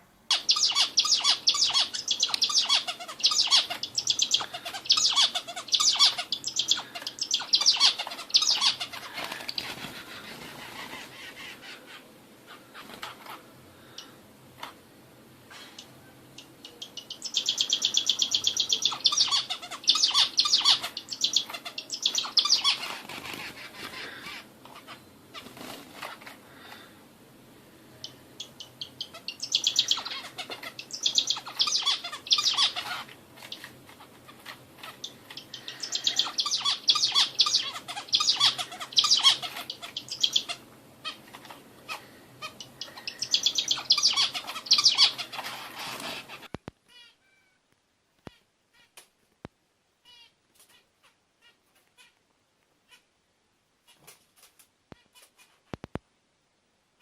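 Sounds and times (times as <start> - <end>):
songbird chirps and trills: 0.0 - 26.9, 27.8 - 47.6.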